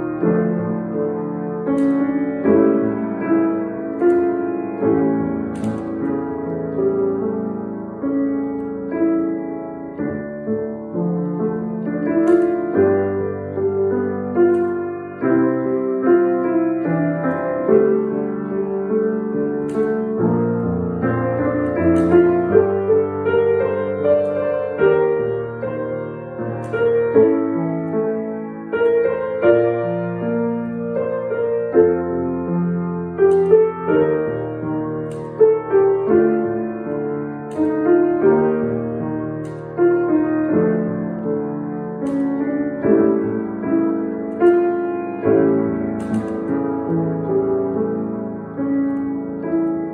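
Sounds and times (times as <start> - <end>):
solo piano: 0.0 - 49.9.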